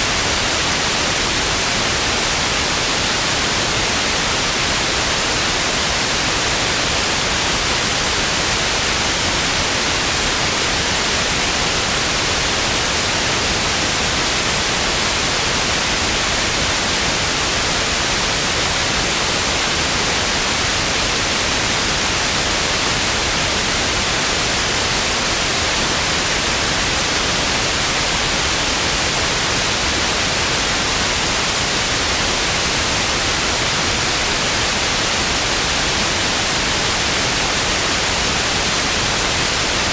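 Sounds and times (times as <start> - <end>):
tv static hiss: 0.0 - 39.9.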